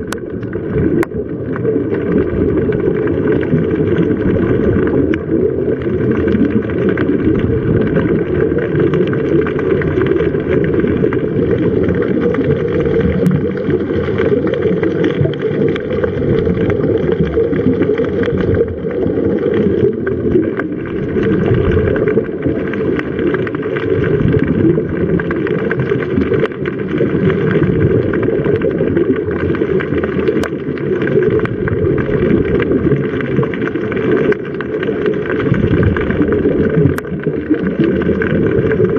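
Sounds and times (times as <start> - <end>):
water and wind rumble: 0.0 - 38.9.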